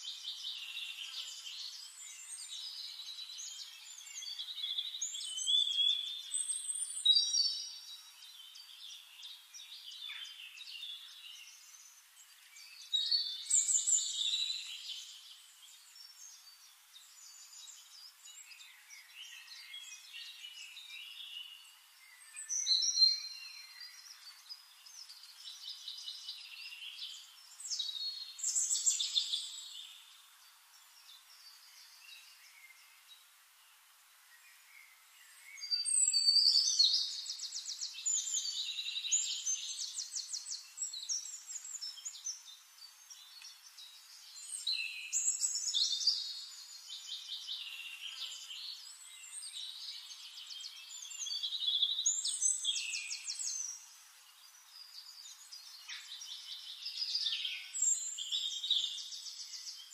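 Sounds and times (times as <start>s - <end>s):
birds chirping and trilling: 0.0s - 59.9s.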